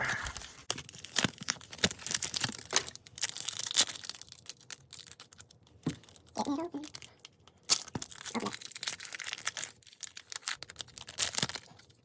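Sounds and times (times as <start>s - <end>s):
foil wrapper crinkling and tearing: 0.1s - 12.0s.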